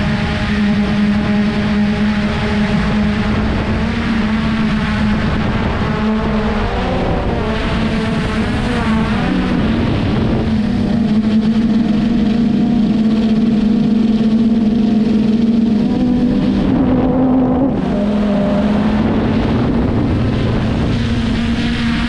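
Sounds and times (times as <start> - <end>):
quadcopter propellers whirring: 0.0 - 22.0.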